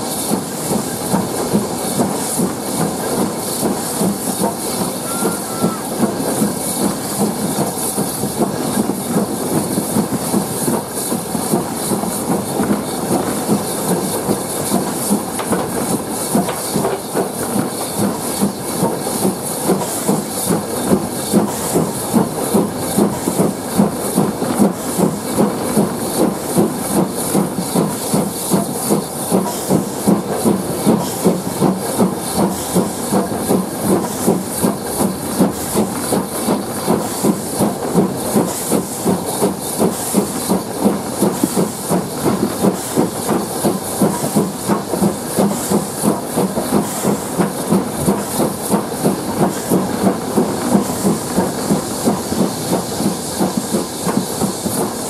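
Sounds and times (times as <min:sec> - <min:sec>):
steam hissing: 0:00.0 - 0:55.0
steam locomotive exhaust beats: 0:00.0 - 0:55.0.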